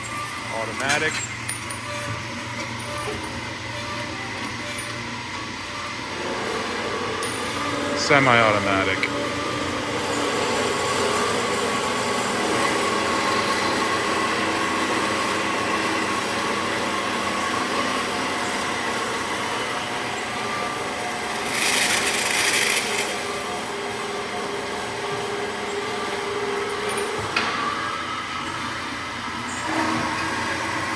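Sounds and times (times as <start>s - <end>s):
bandsaws humming and whining: 0.0s - 30.9s.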